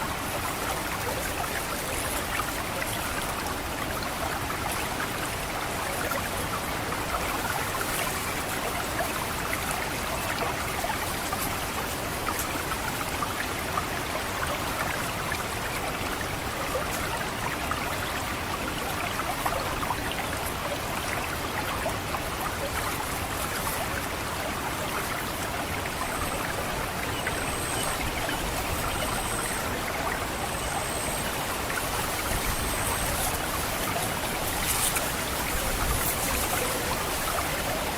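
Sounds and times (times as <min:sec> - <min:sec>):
water trickling and gurgling: 0:00.0 - 0:37.9.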